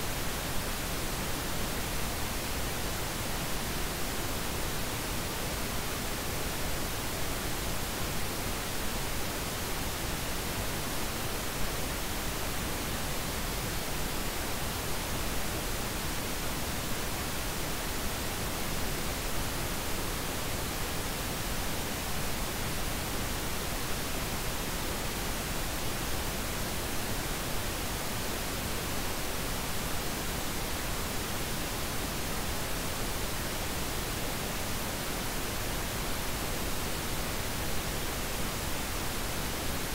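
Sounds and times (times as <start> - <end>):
steady synthetic hiss: 0.0 - 39.9.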